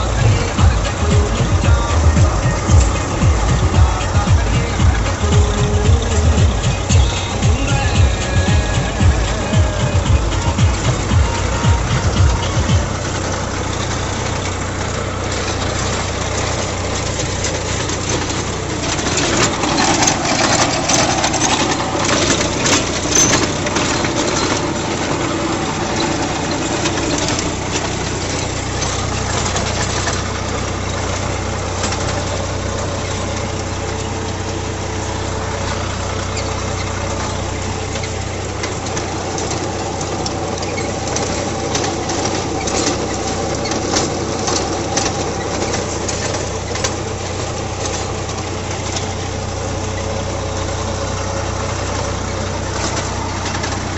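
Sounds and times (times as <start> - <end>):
sharp rattling clatters: 0.0 - 53.9
tractor diesel engine running: 0.0 - 53.9.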